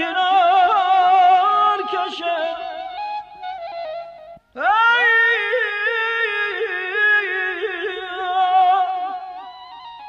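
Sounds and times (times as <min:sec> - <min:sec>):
person singing with vibrato: 0:00.0 - 0:10.0.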